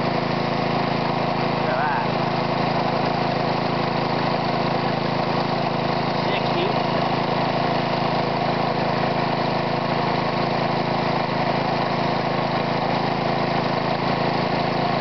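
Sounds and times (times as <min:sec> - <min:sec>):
air compressor engine running: 0:00.0 - 0:15.0.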